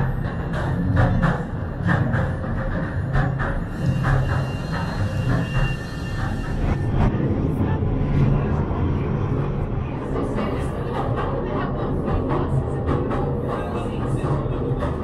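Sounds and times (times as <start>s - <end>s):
train rumble from inside: 0.0s - 15.0s.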